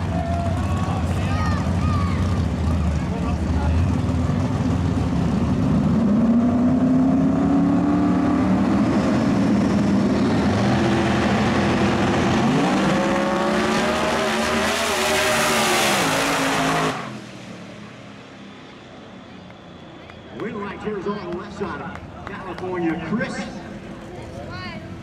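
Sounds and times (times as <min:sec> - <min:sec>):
drag race car engines revving: 0:00.0 - 0:25.0.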